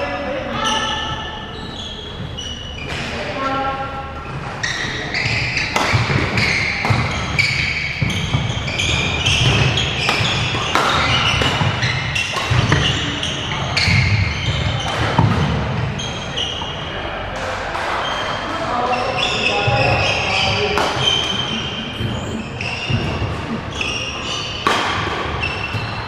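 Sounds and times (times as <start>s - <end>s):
distant voices: 0.0s - 26.0s
shoes squeaking on court floor: 0.1s - 17.0s, 17.8s - 26.0s.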